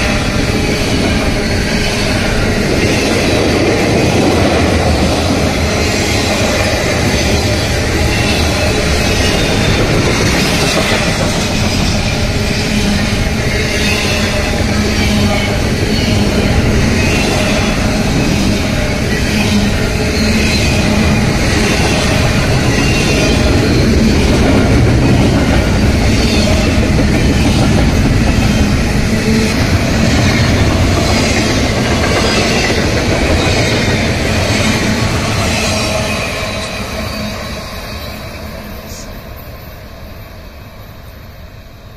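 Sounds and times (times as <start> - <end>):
wheels squealing: 0.0 - 39.1
freight train wheels rumbling and rattling: 0.0 - 40.4.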